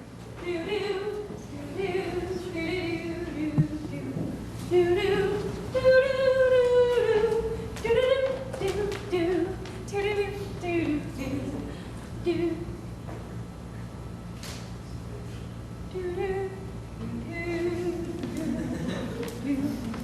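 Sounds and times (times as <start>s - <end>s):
woman singing unaccompanied: 0.4s - 12.8s, 15.9s - 20.0s.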